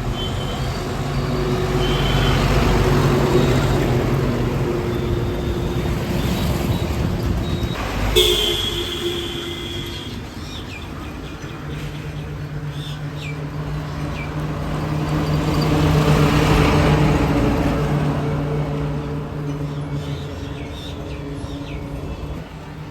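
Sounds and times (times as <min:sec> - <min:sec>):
vehicle engines passing: 0:00.0 - 0:22.9.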